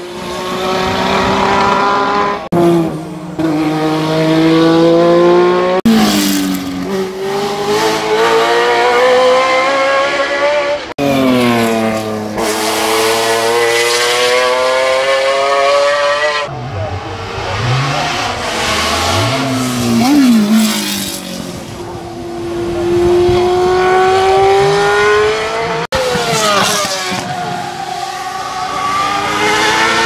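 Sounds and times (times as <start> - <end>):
race car engines accelerating: 0.0 - 30.0.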